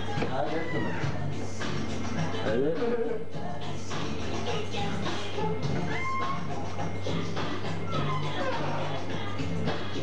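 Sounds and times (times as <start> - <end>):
music with repeating bass line: 0.0 - 10.0.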